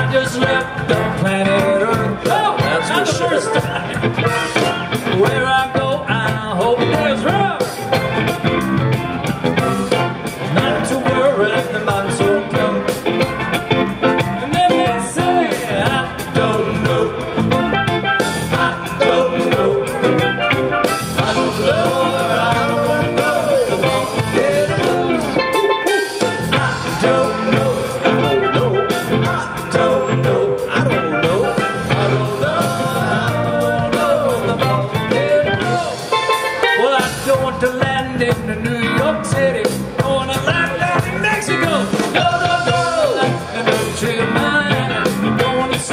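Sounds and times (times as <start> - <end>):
drum kit beat: 0.0 - 45.9
electric guitar: 0.0 - 45.9
live band playing: 0.0 - 45.9.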